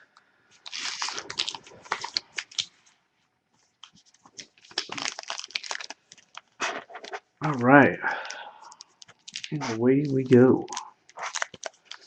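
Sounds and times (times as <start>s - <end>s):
card packs rustling and clicking: 0.6s - 2.8s, 3.8s - 7.6s, 8.2s - 12.0s.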